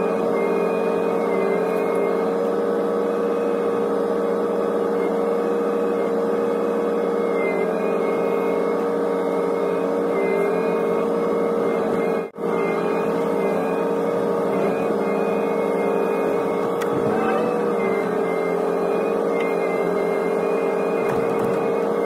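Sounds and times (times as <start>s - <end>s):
excavator engine and hydraulics whine: 0.0s - 22.0s.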